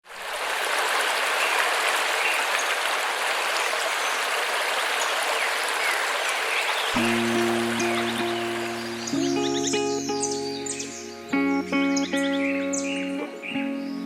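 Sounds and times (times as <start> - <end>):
waterfall rushing: 0.1 - 13.6.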